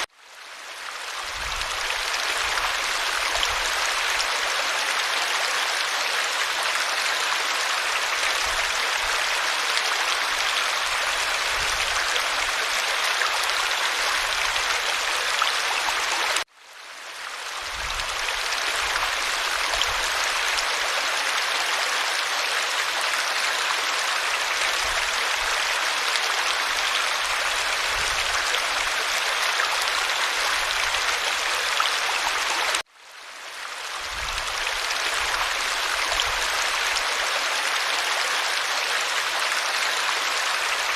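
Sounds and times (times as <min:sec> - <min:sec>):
creek water running over stones: 0:00.0 - 0:40.9.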